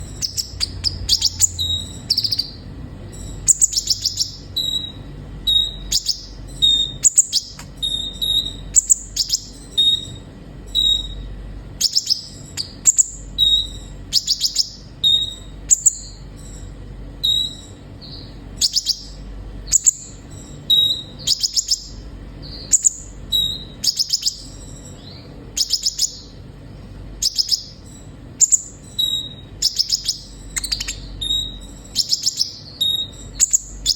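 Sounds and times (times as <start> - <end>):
sunbird singing: 0.0 - 33.9.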